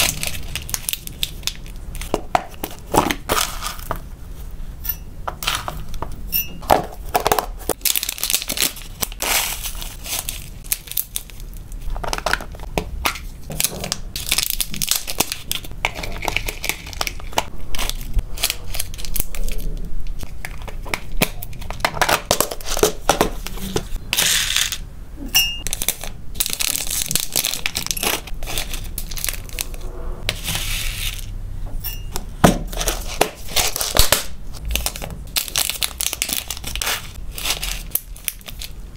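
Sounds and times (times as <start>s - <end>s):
plastic packaging crinkling: 0.0s - 4.0s, 6.7s - 24.8s, 25.6s - 31.3s, 32.7s - 38.9s.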